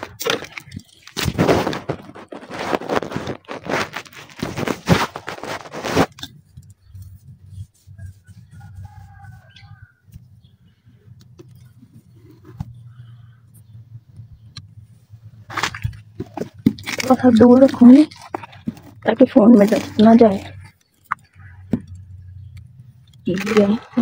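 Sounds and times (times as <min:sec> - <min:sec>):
dirt cracking and crunching: 0:00.0 - 0:13.8, 0:14.4 - 0:24.0.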